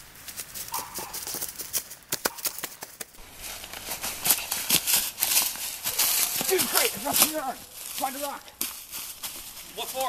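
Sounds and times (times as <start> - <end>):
running footsteps on dry leaves: 0.0 - 10.0.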